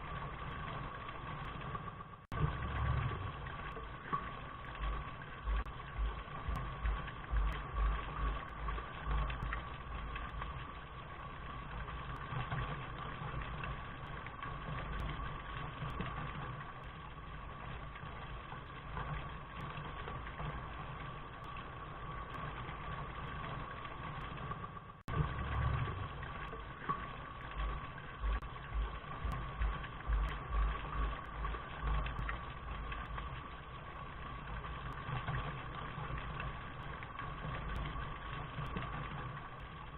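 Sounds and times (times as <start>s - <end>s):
low rumble: 0.0s - 23.0s, 25.1s - 39.9s
steady rain hiss: 0.0s - 39.9s.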